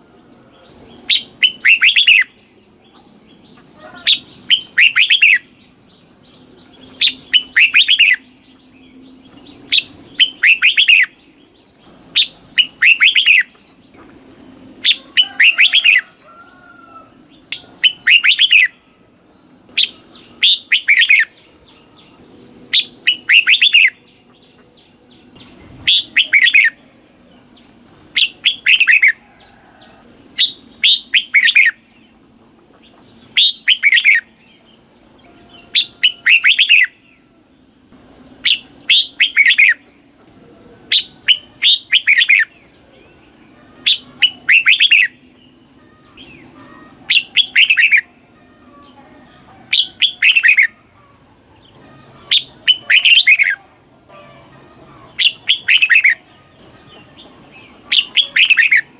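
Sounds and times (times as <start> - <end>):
bulbul singing warbled phrases: 0.0 - 58.9.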